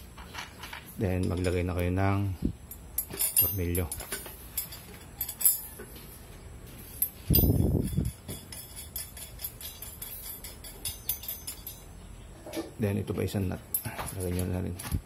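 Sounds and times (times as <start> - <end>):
metal parts clinking: 0.2 - 2.0, 2.6 - 6.0, 6.8 - 12.7, 13.4 - 15.0.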